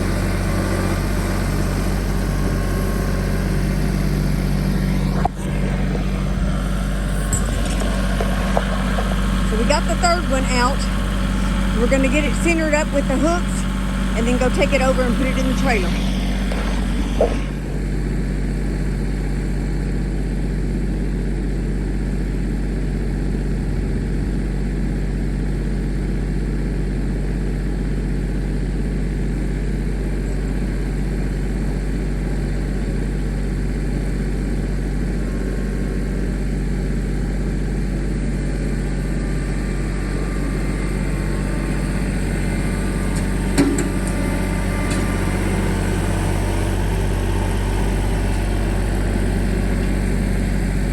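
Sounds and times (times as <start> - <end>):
tractor engine idling: 0.0 - 50.9.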